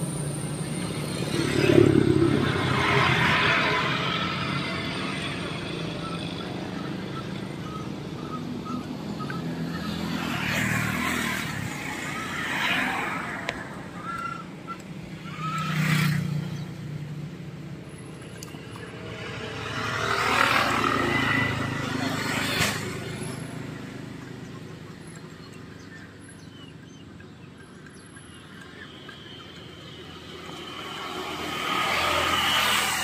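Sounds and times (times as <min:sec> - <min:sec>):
engine hum: 0:00.0 - 0:33.0
vehicles passing: 0:00.0 - 0:33.0.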